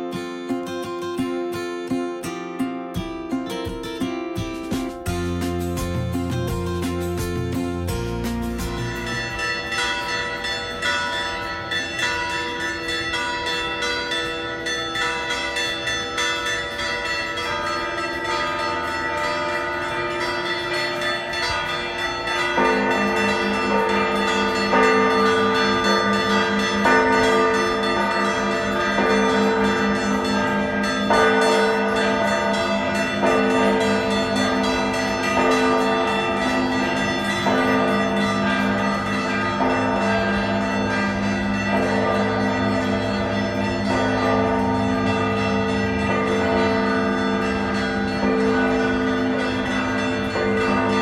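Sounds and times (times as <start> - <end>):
church bells pealing: 0.0 - 4.0, 5.0 - 51.0
lower louder bells: 1.9 - 51.0.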